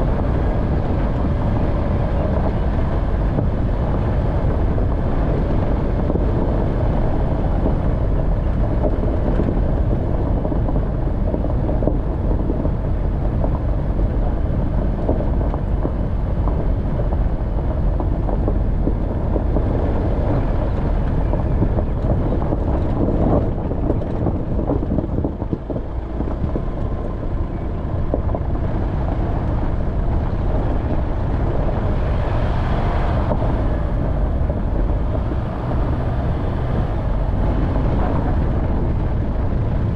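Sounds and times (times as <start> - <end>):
off-road vehicle engine rumble: 0.0 - 39.9
rattling and crunching: 0.0 - 39.9.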